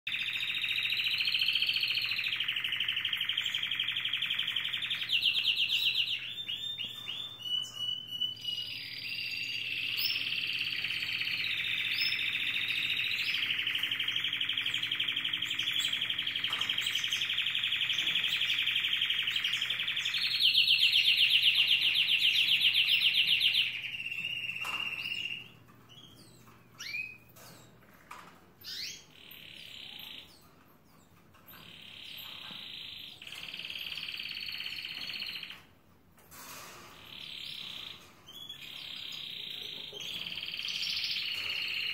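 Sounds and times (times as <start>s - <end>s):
canary singing trills: 0.1s - 35.7s, 36.9s - 41.9s.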